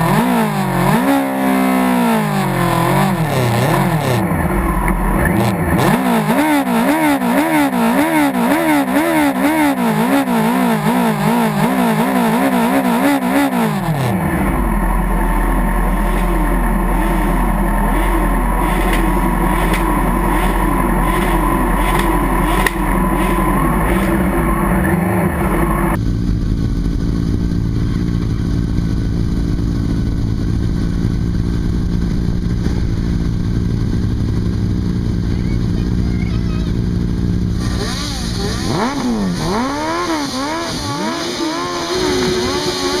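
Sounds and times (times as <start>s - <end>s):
vehicle engine revving: 0.0s - 43.0s.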